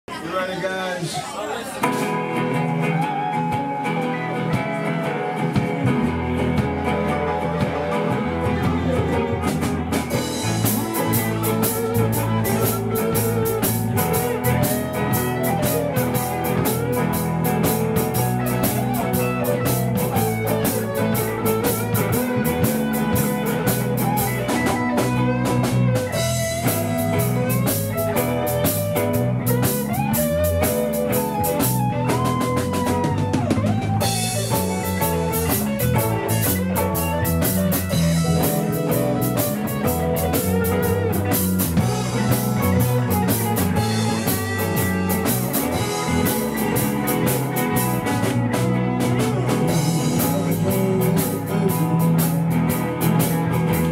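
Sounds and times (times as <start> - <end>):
bass guitar: 1.8 - 53.9
drum kit and cymbals: 1.8 - 53.9
electric guitars: 1.8 - 53.9.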